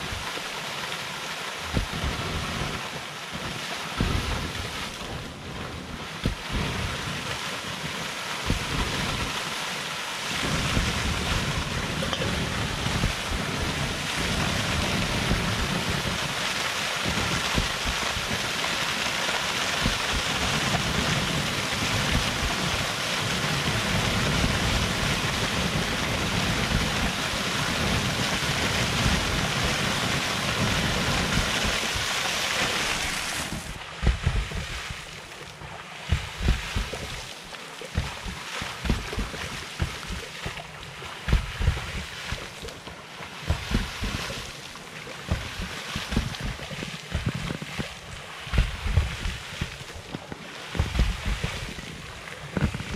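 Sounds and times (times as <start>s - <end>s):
rushing water: 0.0s - 52.9s
wind buffeting microphone: 1.6s - 2.8s, 4.0s - 9.4s, 10.4s - 18.9s, 19.7s - 35.4s, 36.0s - 42.8s, 43.4s - 44.6s, 45.3s - 52.9s.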